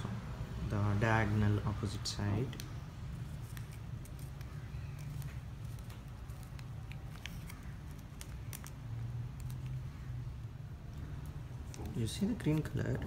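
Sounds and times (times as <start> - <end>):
ribbon strips rustling: 2.5 - 13.0.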